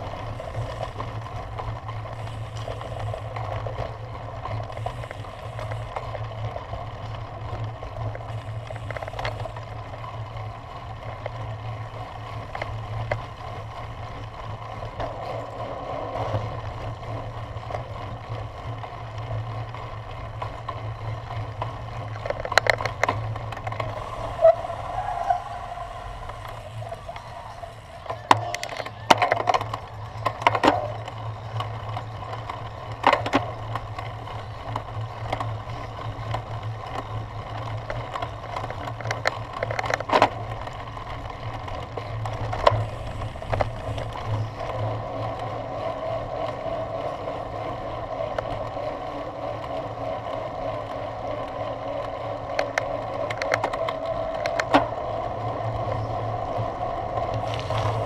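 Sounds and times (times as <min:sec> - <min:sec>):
bike tyres rattling over grass: 0:00.0 - 0:58.0.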